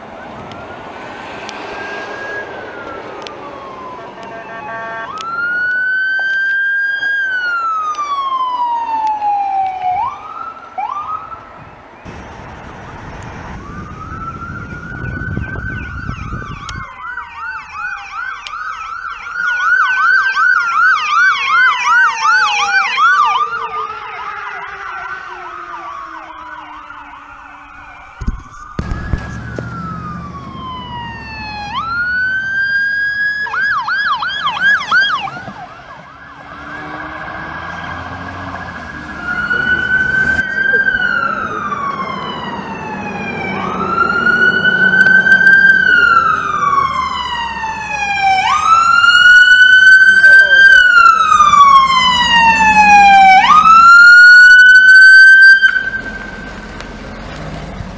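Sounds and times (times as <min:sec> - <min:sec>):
siren yelp: 0:00.0 - 0:57.0
emergency vehicle sirens wailing: 0:00.0 - 0:57.9.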